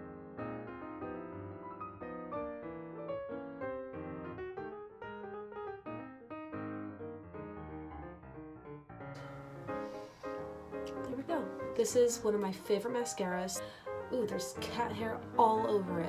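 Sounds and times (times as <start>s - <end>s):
background piano music: 0.0s - 16.0s.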